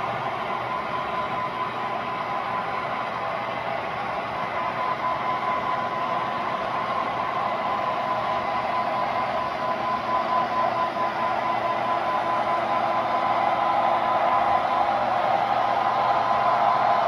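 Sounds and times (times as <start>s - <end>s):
model train running gear whir: 0.0s - 17.0s.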